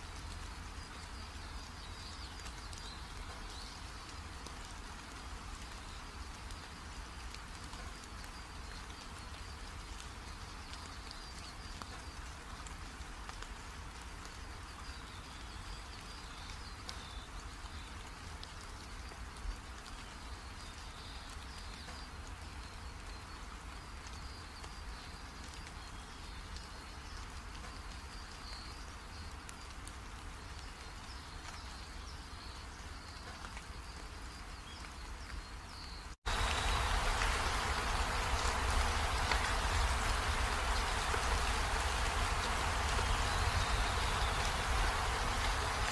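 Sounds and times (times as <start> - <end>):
background hiss: 0.0 - 45.9
rain-like hiss: 0.0 - 45.9.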